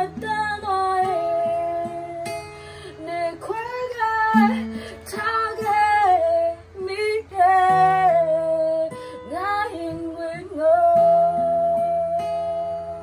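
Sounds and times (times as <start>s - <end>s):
acoustic guitar: 0.0s - 13.0s
woman singing: 0.0s - 13.0s.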